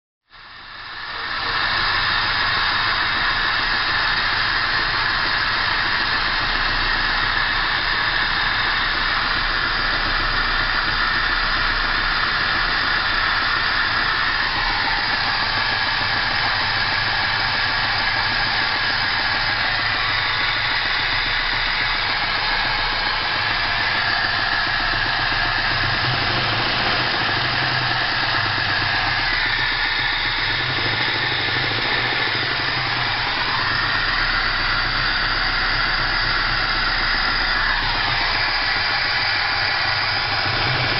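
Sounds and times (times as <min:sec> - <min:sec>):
engine idling with knock: 0:00.4 - 0:40.9.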